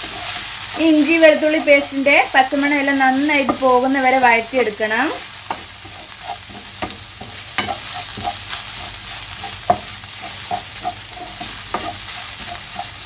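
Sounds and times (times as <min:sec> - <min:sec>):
spatula scraping and tapping pan: 0:00.0 - 0:02.8, 0:03.4 - 0:04.2, 0:05.4 - 0:13.0
food sizzling in hot oil: 0:00.0 - 0:13.0.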